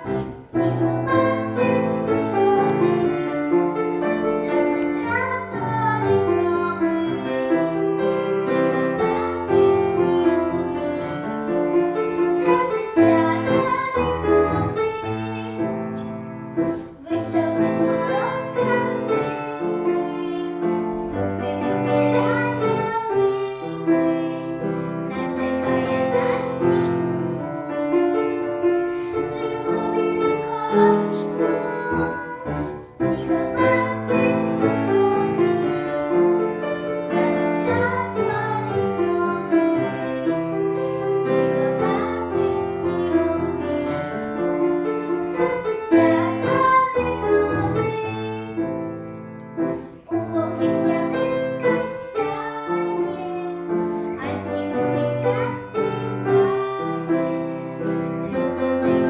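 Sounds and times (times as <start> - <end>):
girl singing: 0.0 - 28.1, 28.7 - 48.7, 49.7 - 59.0
piano accompaniment: 0.0 - 59.0.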